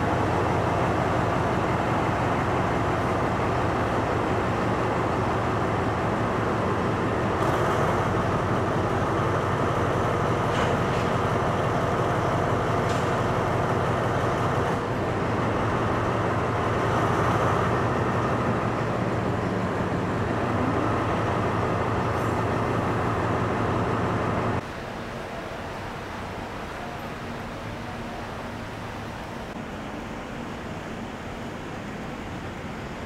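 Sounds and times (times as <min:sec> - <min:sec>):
diesel locomotive idling: 0:00.0 - 0:33.0
station hall background: 0:00.0 - 0:33.0.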